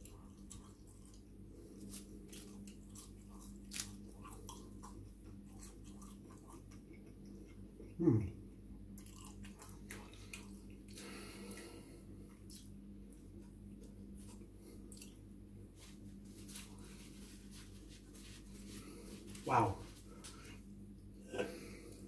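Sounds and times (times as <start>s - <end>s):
chewing and crunching crisp food: 0.0s - 19.4s.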